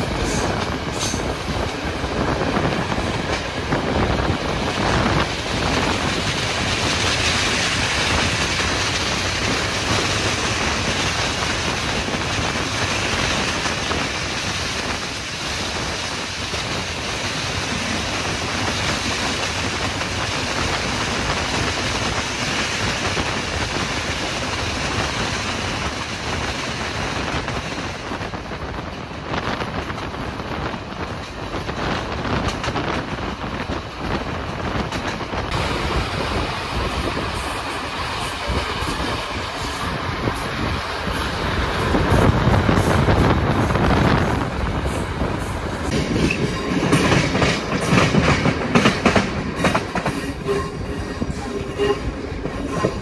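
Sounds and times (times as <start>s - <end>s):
train rattling: 0.0s - 53.0s.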